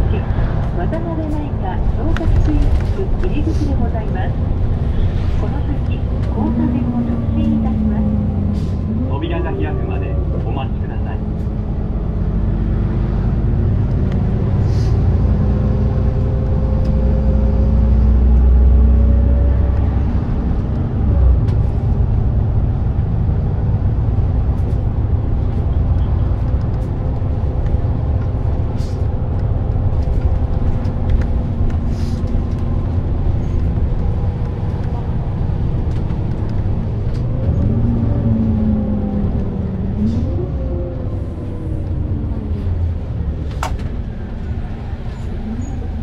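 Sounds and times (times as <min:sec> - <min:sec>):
bus engine and road rumble: 0:00.0 - 0:46.0.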